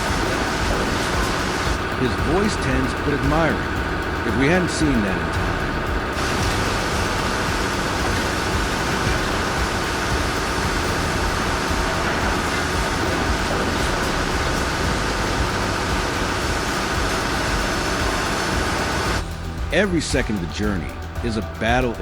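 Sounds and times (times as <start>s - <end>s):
heavy vehicle rumbling: 0.0s - 19.3s.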